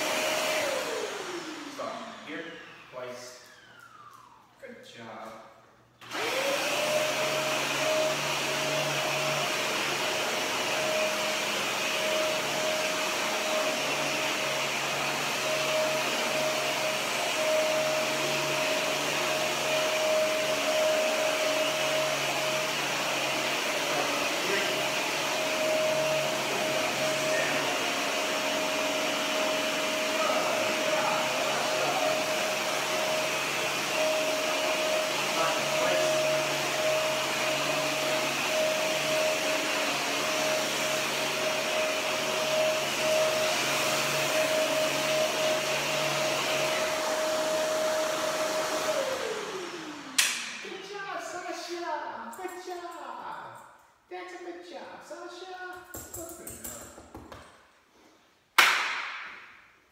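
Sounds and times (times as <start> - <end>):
vacuum cleaner running: 0.0 - 4.6, 5.9 - 53.4.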